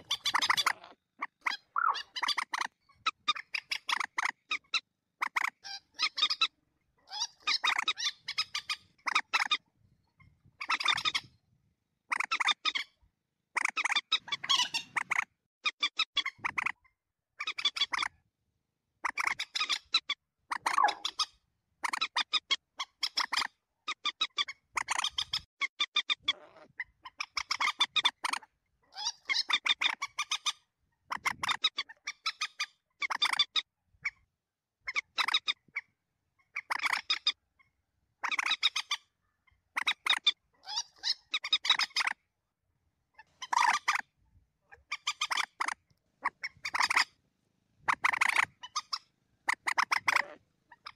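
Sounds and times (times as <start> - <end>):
moorhen harsh clucking calls: 0.0 - 9.6, 10.2 - 11.4, 12.1 - 13.0, 13.6 - 18.1, 19.0 - 34.3, 34.9 - 42.2, 43.2 - 47.2, 47.8 - 50.9.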